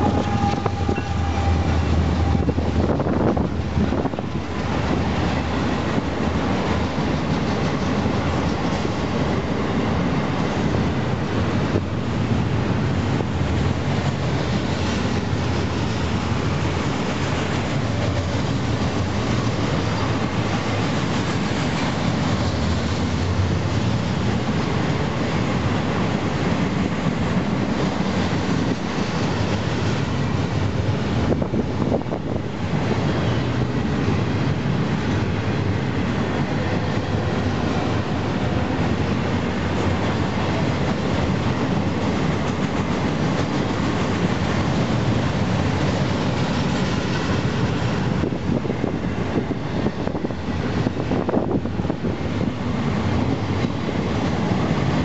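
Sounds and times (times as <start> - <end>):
steel train wheels on rails: 0.0 - 55.0.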